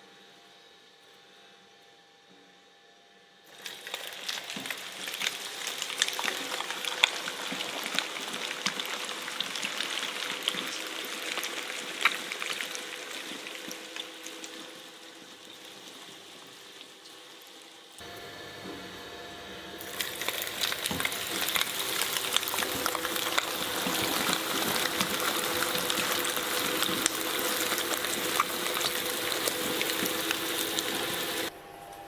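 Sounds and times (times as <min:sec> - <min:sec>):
shredder crushing soft material: 0:03.5 - 0:17.0, 0:18.0 - 0:32.0.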